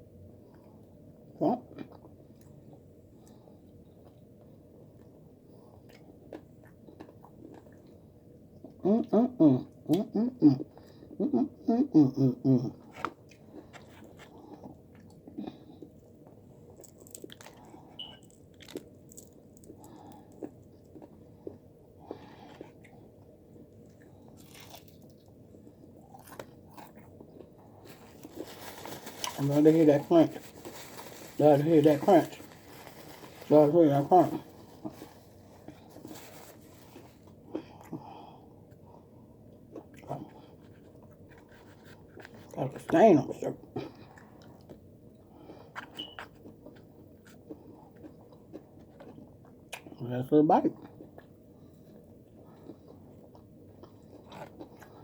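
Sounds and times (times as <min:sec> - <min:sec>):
person chewing fried chicken: 0:01.7 - 0:08.8, 0:12.7 - 0:42.6, 0:43.7 - 0:50.0, 0:50.7 - 0:55.0.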